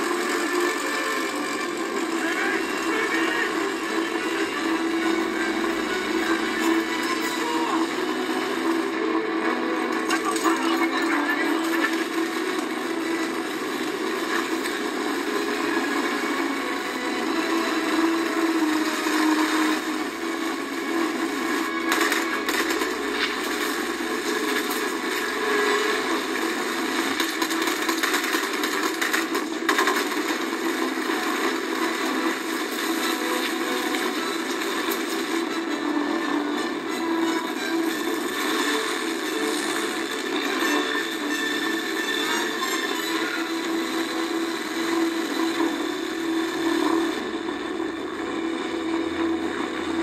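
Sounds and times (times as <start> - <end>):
action scene noise: 0.0 - 50.0.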